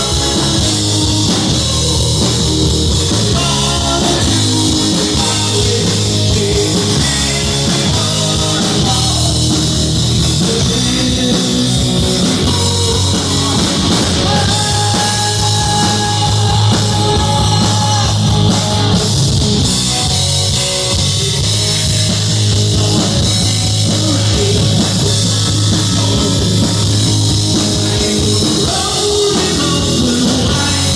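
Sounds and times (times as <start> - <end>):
person singing: 0.0 - 19.4, 22.6 - 30.9
drum kit: 0.0 - 30.9
guitar: 0.0 - 30.9
rock band playing: 0.0 - 30.9.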